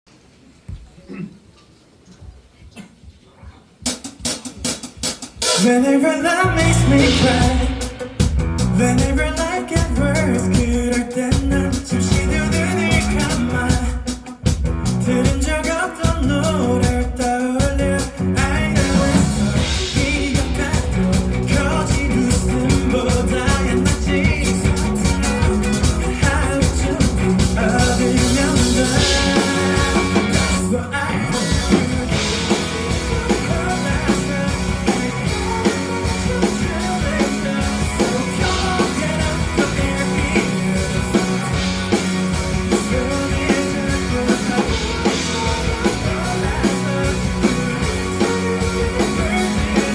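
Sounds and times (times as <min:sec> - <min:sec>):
live rock band playing: 0:04.2 - 0:49.9.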